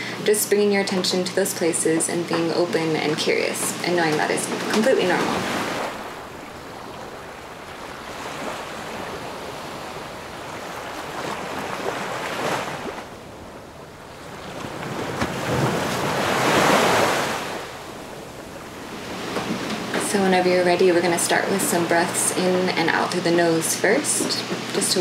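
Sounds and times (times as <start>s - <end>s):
ocean surf: 1.5s - 25.0s.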